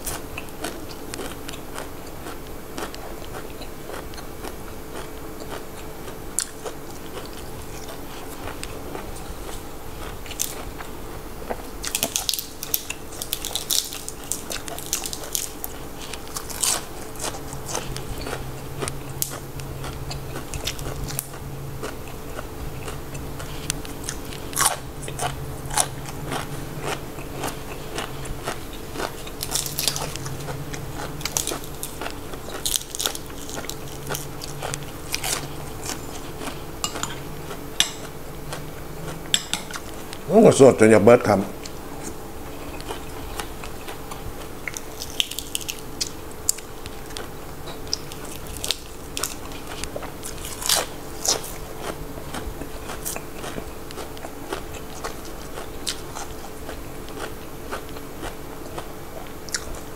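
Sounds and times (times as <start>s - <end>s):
crunchy vegetable chewing: 0.0s - 59.9s.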